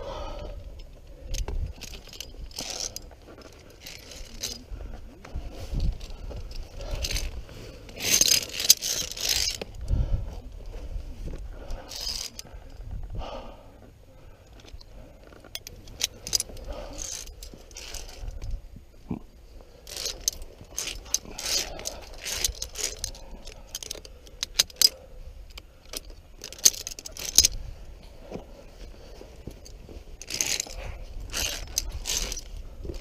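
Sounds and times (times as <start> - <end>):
carabiners clinking on steel cable: 0.4 - 10.0, 11.6 - 12.9, 14.3 - 18.6, 19.5 - 33.0.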